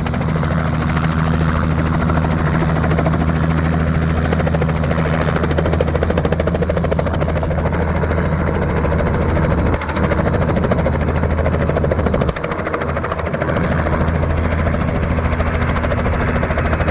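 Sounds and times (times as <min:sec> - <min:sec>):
helicopter rotor beating: 0:00.0 - 0:16.9.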